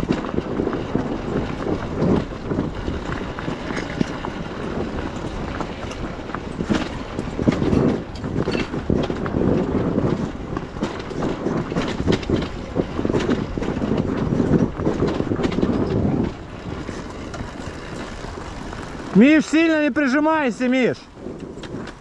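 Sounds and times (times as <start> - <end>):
motorcycle engine under throttle: 0.0 - 19.2
wind buffeting microphone: 0.0 - 22.0.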